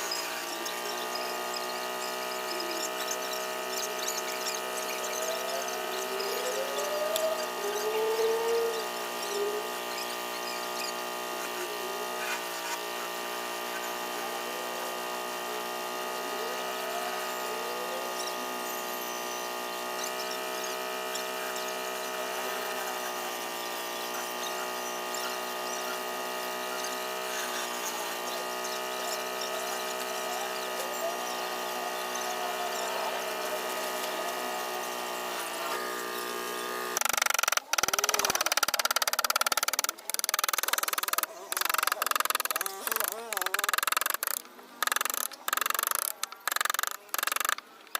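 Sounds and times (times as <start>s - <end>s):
electric grinder motor humming: 0.0s - 47.9s.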